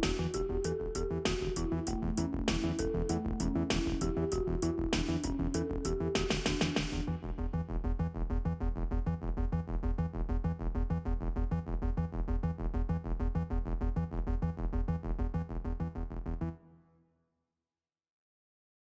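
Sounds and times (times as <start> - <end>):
electronic music with fast beat: 0.0 - 16.4.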